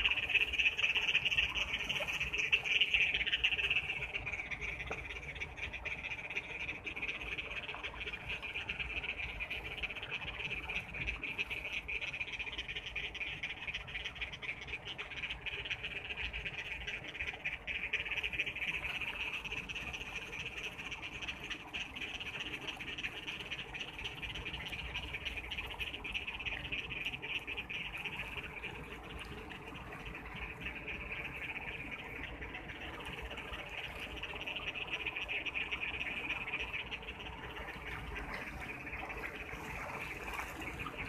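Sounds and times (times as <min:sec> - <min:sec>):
frogs calling: 0:00.0 - 0:41.0.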